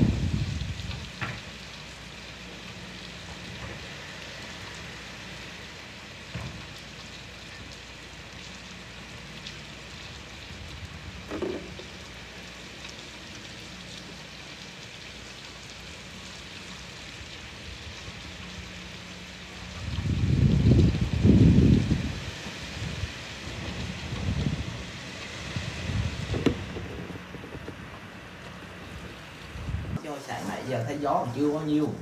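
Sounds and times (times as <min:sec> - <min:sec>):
steady rain on pavement: 0:00.0 - 0:32.0.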